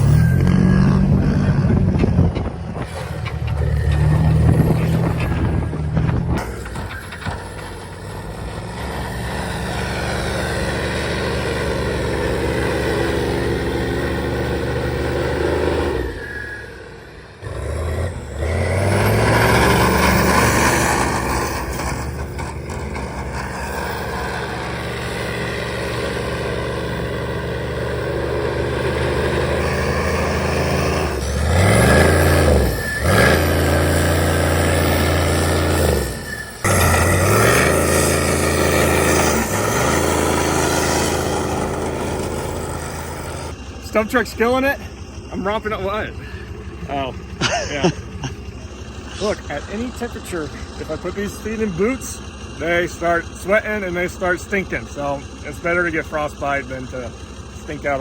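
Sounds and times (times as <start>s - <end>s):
truck engine revving in sand: 0.0s - 58.0s.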